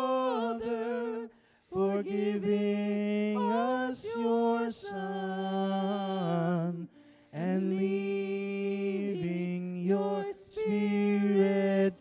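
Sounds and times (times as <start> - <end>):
group singing a slow hymn: 0.0 - 12.0.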